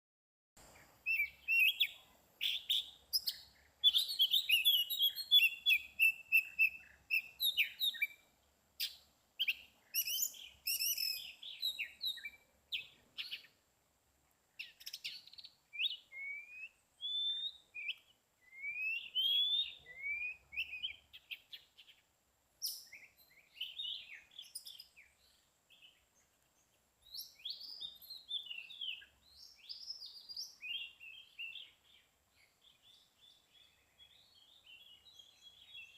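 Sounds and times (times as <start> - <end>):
songbird singing: 0.6 - 35.9.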